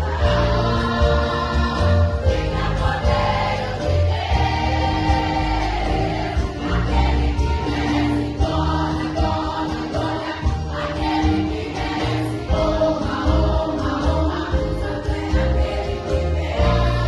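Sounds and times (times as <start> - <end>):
group singing gospel music: 0.0 - 17.0
heavy bass accompaniment: 0.0 - 17.0.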